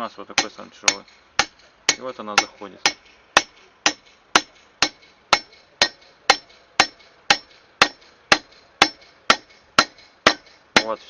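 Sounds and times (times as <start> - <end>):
hammer striking metal: 0.4 - 11.0.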